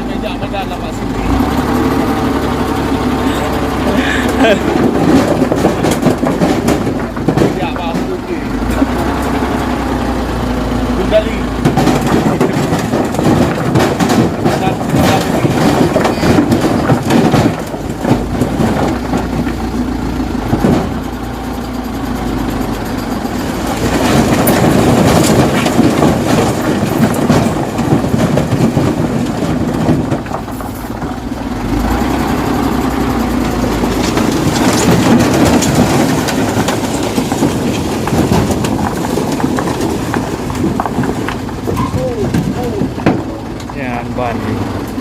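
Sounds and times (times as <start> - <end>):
knocking and rattling: 0.0 - 45.0
truck engine running: 0.0 - 45.0.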